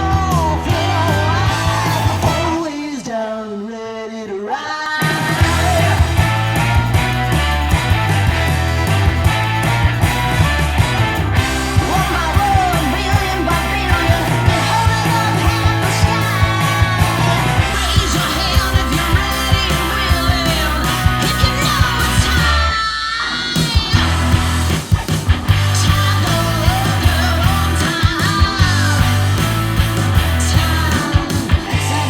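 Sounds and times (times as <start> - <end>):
steady drum beat: 0.0 - 2.7, 5.0 - 22.8, 23.6 - 32.0
person singing: 0.0 - 6.9, 11.4 - 24.2, 25.6 - 32.0
rock music over loudspeaker: 0.0 - 32.0.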